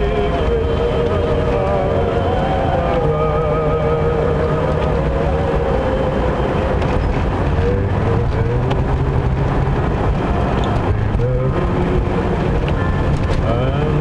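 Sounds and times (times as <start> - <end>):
car engine drone: 0.0 - 14.0
tyre and road noise: 0.0 - 14.0.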